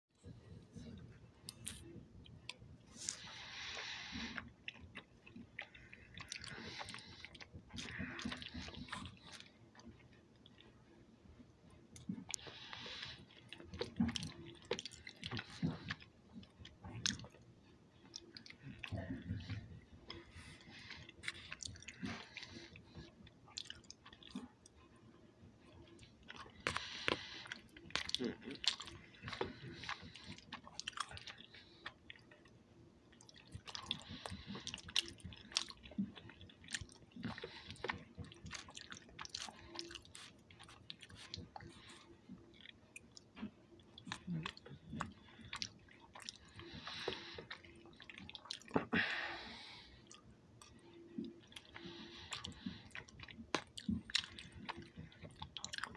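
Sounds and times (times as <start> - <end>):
person chewing food: 0.2 - 55.9.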